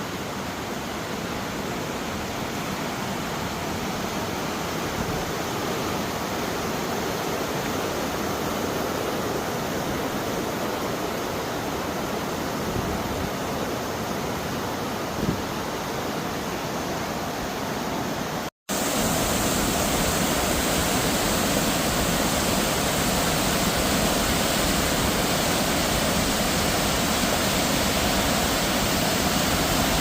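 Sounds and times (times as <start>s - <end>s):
fast-flowing water rushing: 0.0s - 30.0s.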